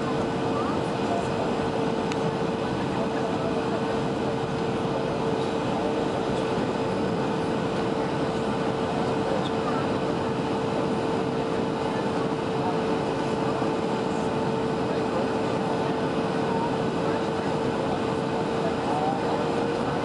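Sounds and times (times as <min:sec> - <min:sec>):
airplane cabin roar: 0:00.0 - 0:20.0
constant hum: 0:00.0 - 0:20.0.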